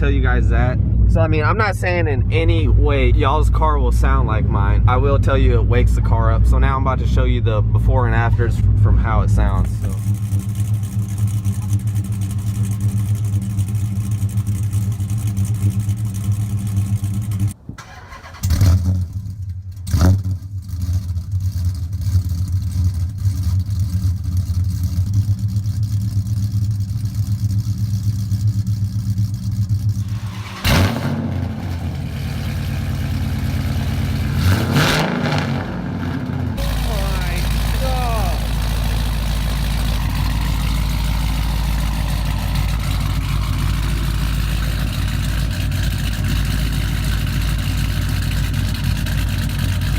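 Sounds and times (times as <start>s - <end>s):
car engine idling: 0.0s - 49.9s
engine revving: 0.0s - 49.9s.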